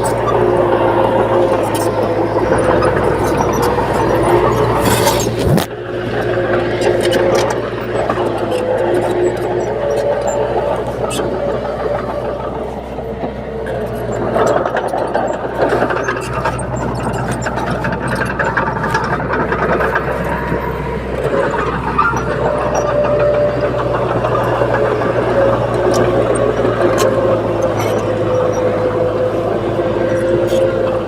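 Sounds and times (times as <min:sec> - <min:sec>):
bulldozer diesel engine running: 0:00.0 - 0:31.0
clicks and clanks: 0:00.0 - 0:31.0.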